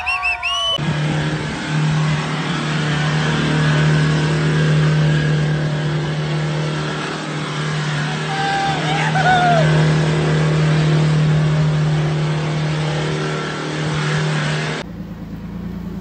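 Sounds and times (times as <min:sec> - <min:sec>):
pickup engine at high revs: 0:00.7 - 0:16.0.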